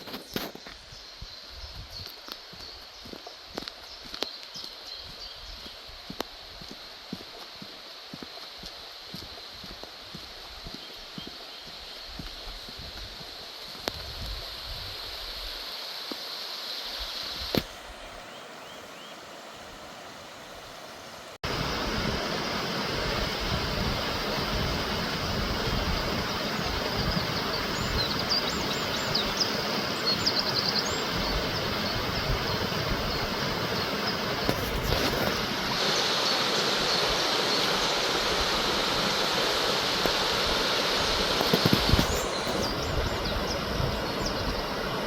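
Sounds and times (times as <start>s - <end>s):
flowing river water: 0.0s - 45.0s.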